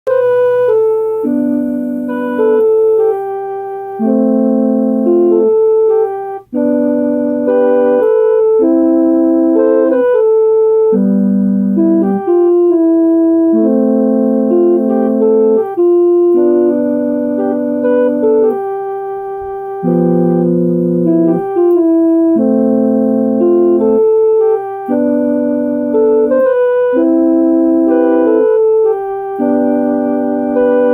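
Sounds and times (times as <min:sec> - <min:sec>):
keyboard playing held chords: 0:00.0 - 0:30.9.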